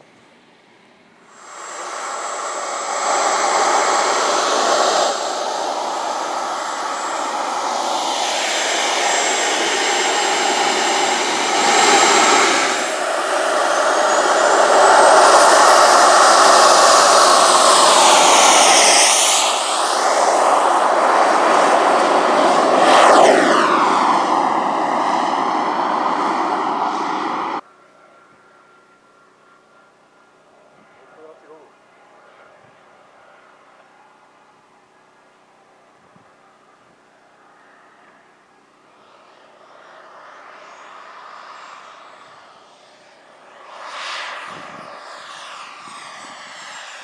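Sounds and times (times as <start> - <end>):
model jet engine whining: 1.3 - 35.6, 36.2 - 47.0.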